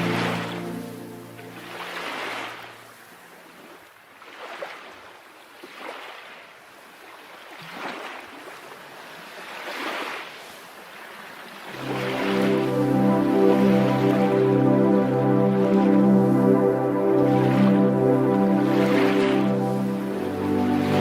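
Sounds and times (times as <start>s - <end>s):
small waves washing in: 0.0s - 21.0s.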